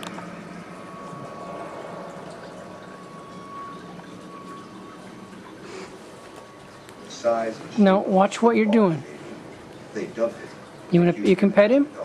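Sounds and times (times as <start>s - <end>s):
rushing bubbling water: 0.0s - 12.0s.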